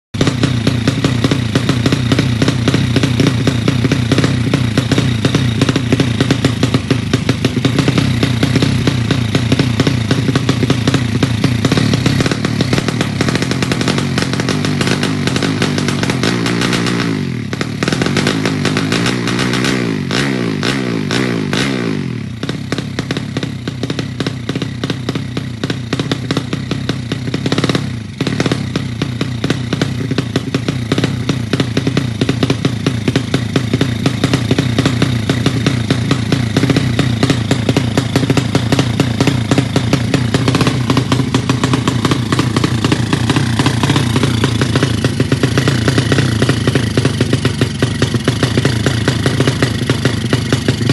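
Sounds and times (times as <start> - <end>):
motorcycle engine idling: 0.1 - 50.9.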